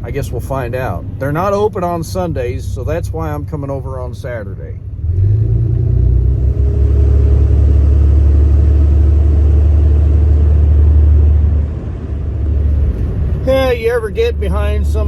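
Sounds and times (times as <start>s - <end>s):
diesel engine deep drone: 0.0s - 15.0s.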